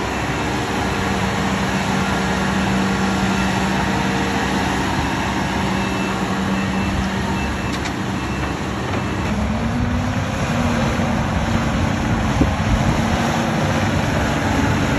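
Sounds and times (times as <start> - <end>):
diesel engines running: 0.0 - 14.9.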